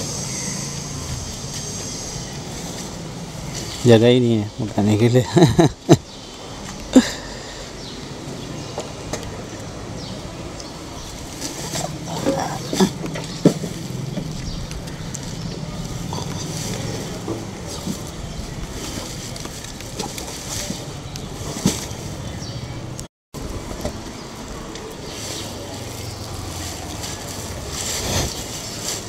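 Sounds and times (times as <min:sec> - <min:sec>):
steady background noise: 0:00.0 - 0:29.0.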